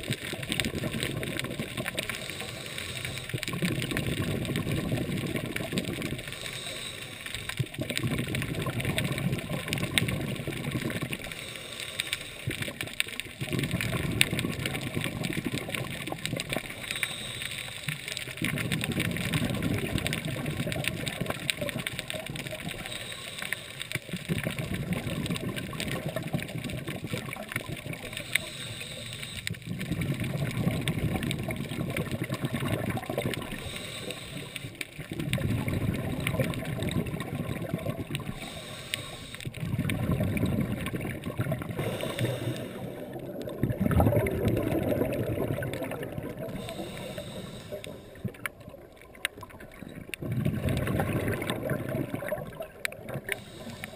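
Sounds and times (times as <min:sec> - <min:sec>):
small clicks crackling: 0:00.0 - 0:53.9
underwater exhaled bubbles: 0:00.0 - 0:53.9.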